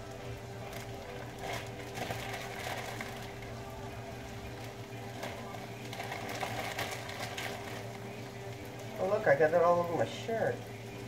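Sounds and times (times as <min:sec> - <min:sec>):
plastic bag crinkling: 0:00.6 - 0:09.4.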